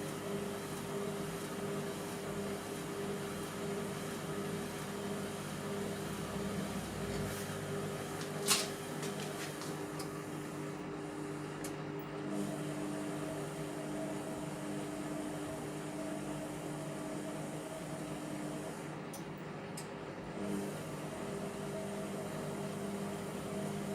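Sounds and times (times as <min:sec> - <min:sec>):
washing machine motor humming: 0:00.0 - 0:23.9.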